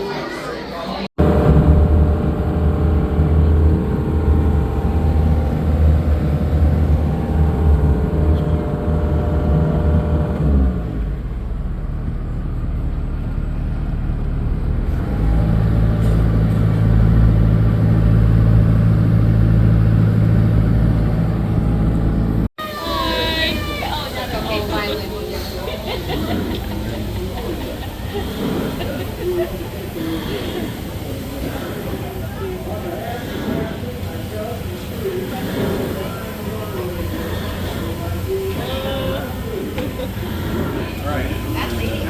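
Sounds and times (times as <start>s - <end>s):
low motor hum: 1.2s - 42.0s.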